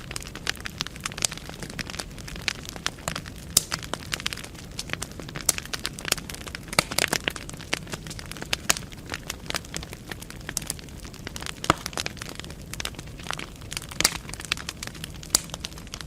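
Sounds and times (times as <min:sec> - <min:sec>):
fire hissing: 0:00.0 - 0:16.0
logs crackling and popping: 0:00.0 - 0:16.0.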